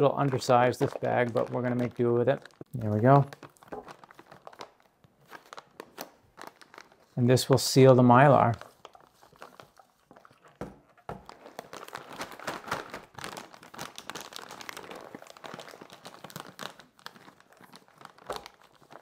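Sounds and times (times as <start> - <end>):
foil bag crinkling: 0.0 - 19.0.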